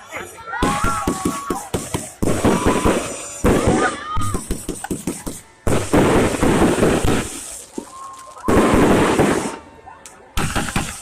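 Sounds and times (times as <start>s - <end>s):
fireworks crackling bangs: 0.5s - 11.0s.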